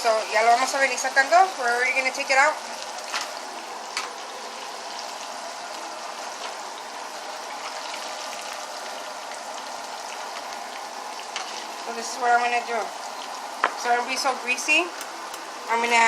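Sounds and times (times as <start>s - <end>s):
chicken deep-frying in hot oil: 0.0s - 16.0s.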